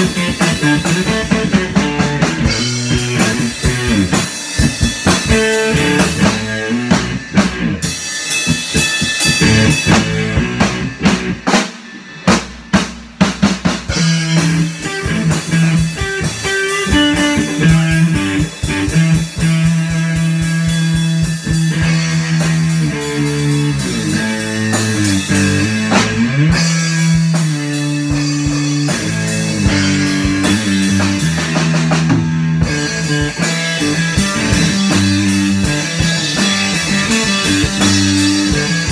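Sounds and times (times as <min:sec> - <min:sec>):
drum kit playing: 0:00.0 - 0:38.9
electric guitar with pitch bends: 0:00.0 - 0:38.9.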